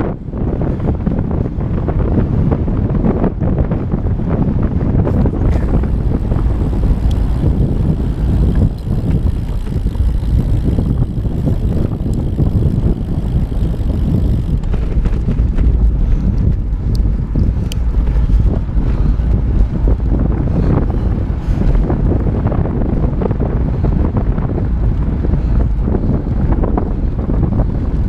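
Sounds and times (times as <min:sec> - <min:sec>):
road noise: 0:00.0 - 0:28.0
wind buffeting microphone: 0:00.0 - 0:28.0.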